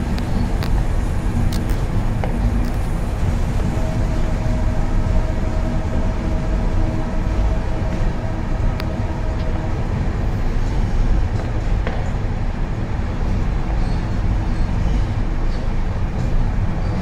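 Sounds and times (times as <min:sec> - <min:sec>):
train rumbling along the track: 0:00.0 - 0:17.0.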